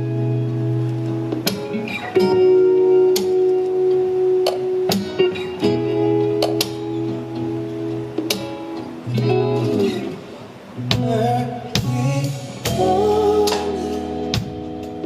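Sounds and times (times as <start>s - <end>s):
guitar chords in slow ballad: 0.0s - 15.0s.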